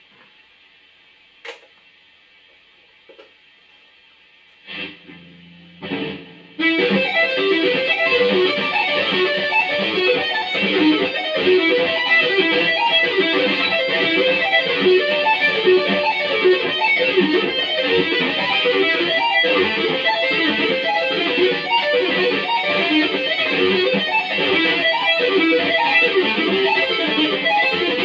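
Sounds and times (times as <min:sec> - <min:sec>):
fast electric guitar tapping run: 0:04.7 - 0:28.0
ringing electric guitar notes: 0:04.7 - 0:28.0.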